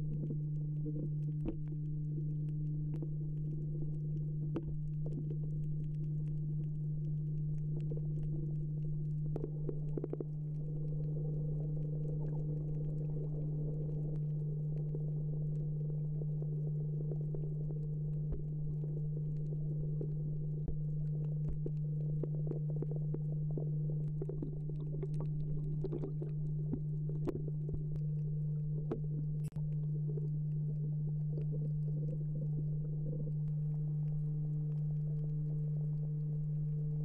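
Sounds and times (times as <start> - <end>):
underwater clicks and ticks: 0.0 - 37.0
underwater low hum: 0.0 - 37.0.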